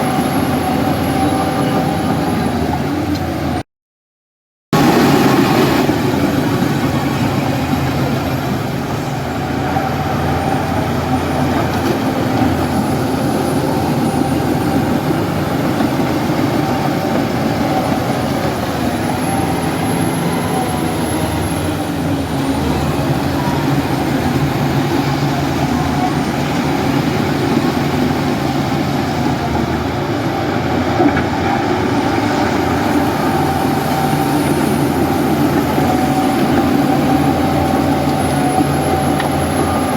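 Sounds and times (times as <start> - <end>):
diesel engine running: 0.0 - 3.6, 4.8 - 39.9.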